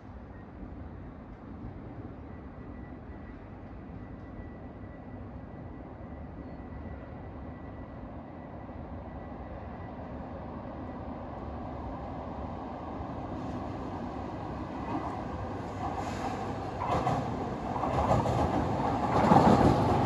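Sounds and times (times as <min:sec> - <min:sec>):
electric train rumbling on rails: 0:00.0 - 0:20.0.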